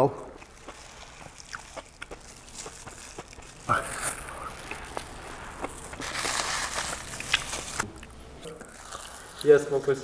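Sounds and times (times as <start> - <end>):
person chewing: 0.3 - 9.5.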